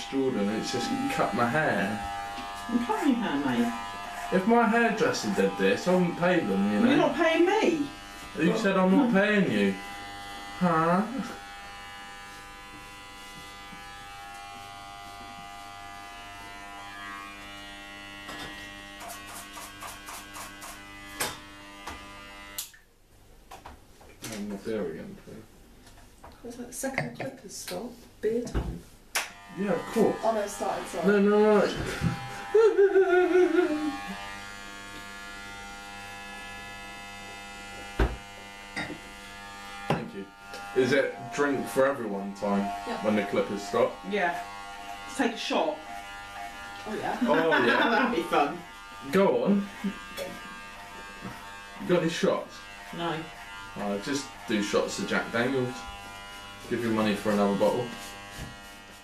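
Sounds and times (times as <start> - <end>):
electric hair clippers buzzing: 0.0 - 22.8, 29.2 - 59.0.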